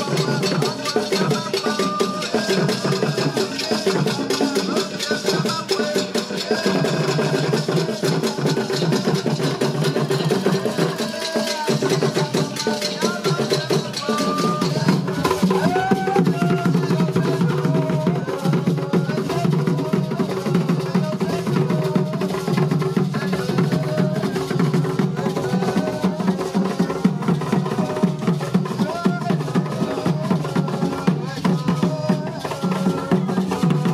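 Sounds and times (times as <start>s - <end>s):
fast clacking percussion drumming: 0.0s - 33.9s
voices singing or calling: 0.0s - 33.9s.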